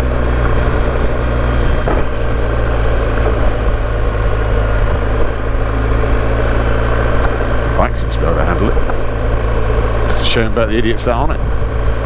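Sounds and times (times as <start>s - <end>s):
motorcycle engine droning: 0.0s - 12.0s
tyres on gravel: 0.0s - 12.0s.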